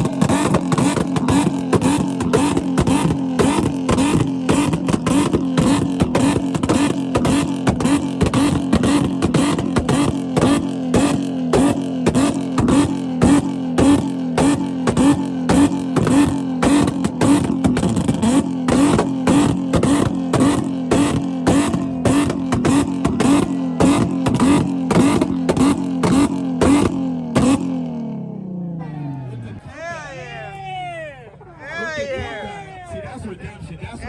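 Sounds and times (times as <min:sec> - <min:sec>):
car engine bouncing off rev limiter: 0:00.0 - 0:29.6.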